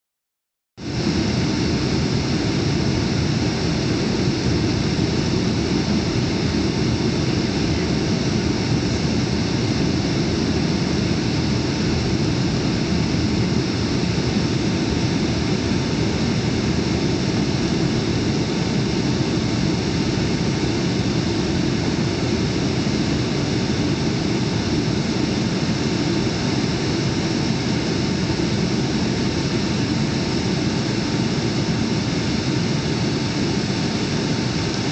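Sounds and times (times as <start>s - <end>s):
rushing airflow: 0.8s - 34.9s
jet engines roaring: 0.9s - 34.9s.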